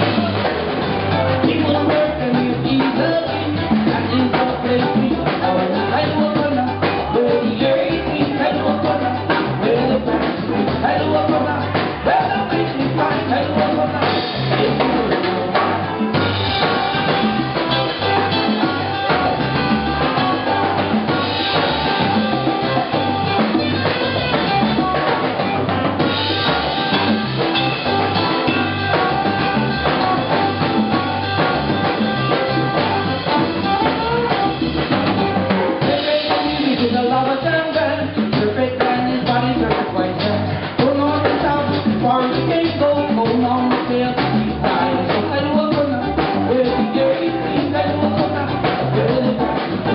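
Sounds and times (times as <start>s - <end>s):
bass guitar: 0.0s - 49.9s
congas: 0.0s - 49.9s
drum kit: 0.0s - 49.9s.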